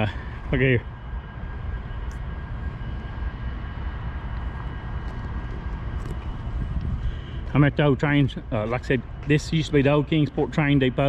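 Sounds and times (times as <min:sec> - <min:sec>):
diesel locomotive idling: 0:00.0 - 0:11.0
faint high whine: 0:00.0 - 0:11.0.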